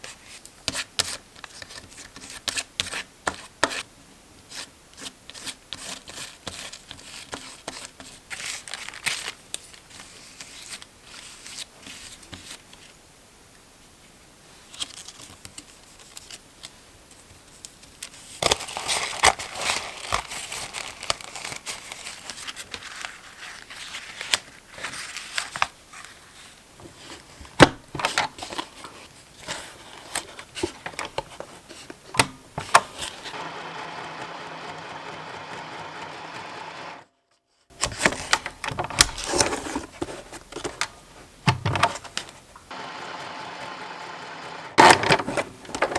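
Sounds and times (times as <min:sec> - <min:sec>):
paper rustling: 0:05.3 - 0:13.0, 0:14.7 - 0:36.8, 0:37.7 - 0:43.7, 0:44.4 - 0:45.9.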